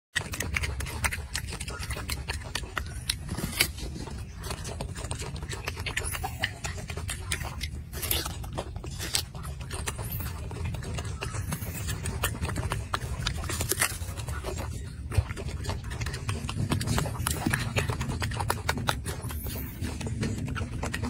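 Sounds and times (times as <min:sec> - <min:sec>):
monkey chewing apple crunches: 0:00.2 - 0:21.0
steady low rumble: 0:00.4 - 0:21.0.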